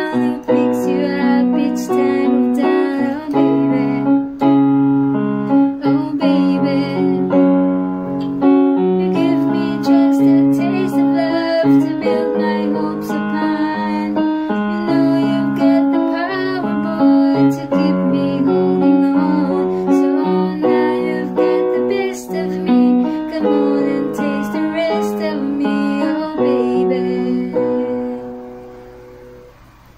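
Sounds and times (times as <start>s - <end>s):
electronic keyboard piano chords: 0.0s - 29.9s.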